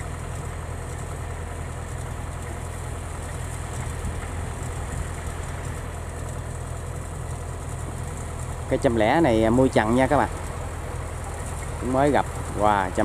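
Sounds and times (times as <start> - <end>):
combine harvester diesel engine running: 0.0 - 13.0.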